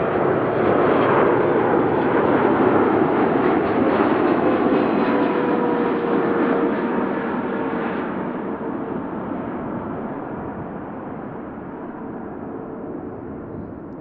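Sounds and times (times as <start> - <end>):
jet airliner engines passing: 0.0 - 14.0.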